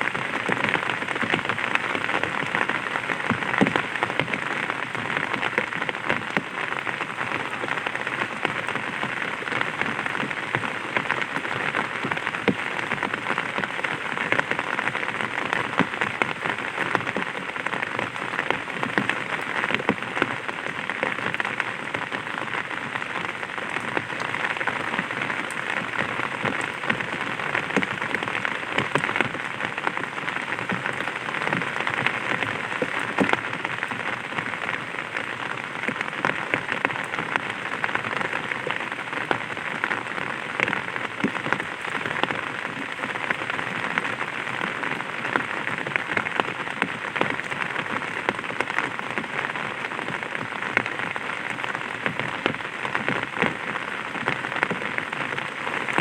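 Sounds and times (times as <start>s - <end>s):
rain pattering on umbrella: 0.0s - 56.0s.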